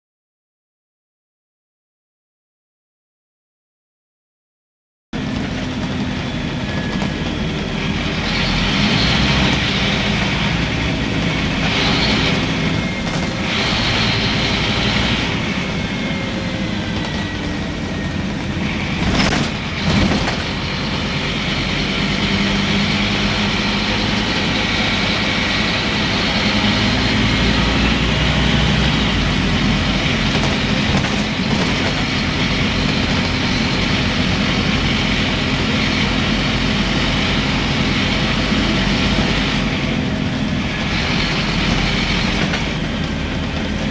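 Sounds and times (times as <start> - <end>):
bus diesel engine running: 5.2 - 43.9
road noise: 5.2 - 43.9.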